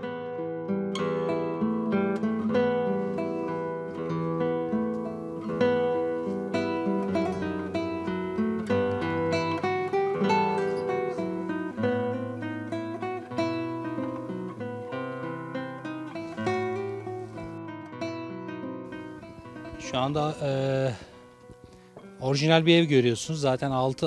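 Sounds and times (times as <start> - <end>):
acoustic guitar plucked notes: 0.0 - 24.0.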